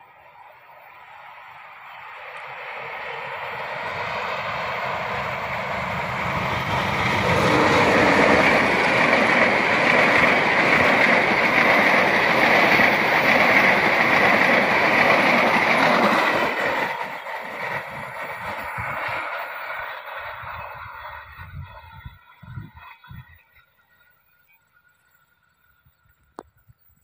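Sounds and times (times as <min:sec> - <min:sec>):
diesel passenger train passing: 0:00.0 - 0:26.6.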